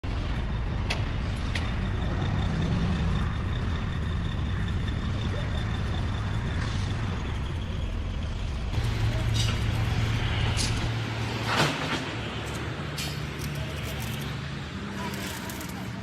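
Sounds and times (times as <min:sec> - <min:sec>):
heavy machinery running: 0:00.1 - 0:16.0.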